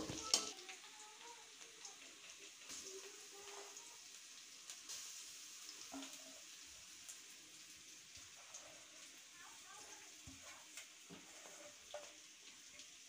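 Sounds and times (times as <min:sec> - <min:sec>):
onion sizzling in oil: 0:00.0 - 0:13.0.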